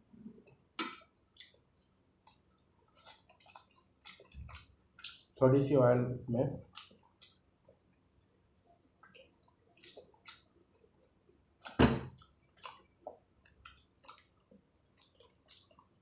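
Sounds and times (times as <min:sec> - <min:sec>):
wet chewing and squishing: 0:00.8 - 0:05.4, 0:06.7 - 0:08.0, 0:09.0 - 0:16.0.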